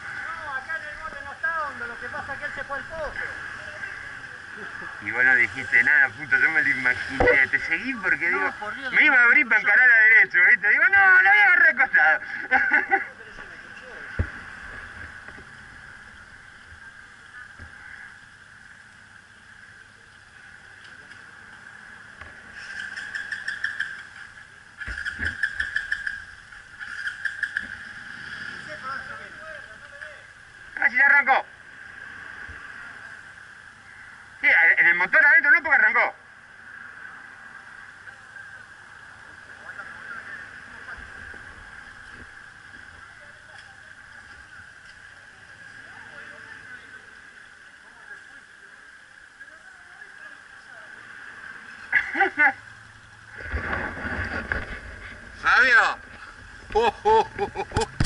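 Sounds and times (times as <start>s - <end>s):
running water hiss: 0.0s - 58.0s.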